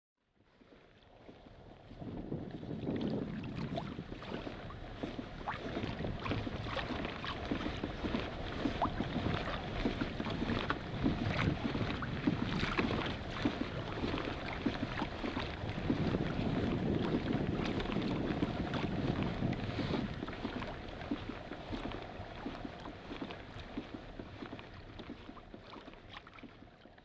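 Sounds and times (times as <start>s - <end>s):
small waves lapping against hull: 0.2s - 27.0s
wind buffeting microphone: 1.3s - 26.1s.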